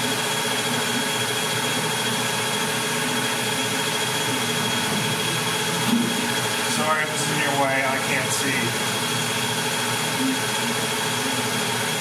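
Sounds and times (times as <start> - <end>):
lathe running with high whine: 0.0 - 12.0.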